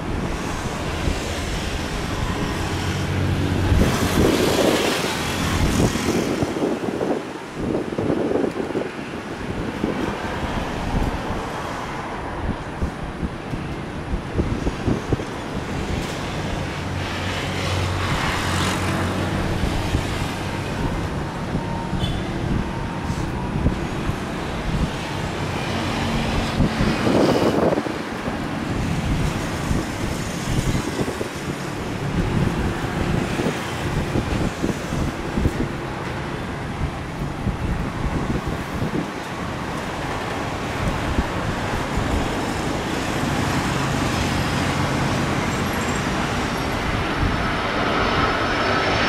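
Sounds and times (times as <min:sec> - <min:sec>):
roadside traffic noise: 0:00.0 - 0:49.0
vehicles passing close by: 0:00.0 - 0:49.0.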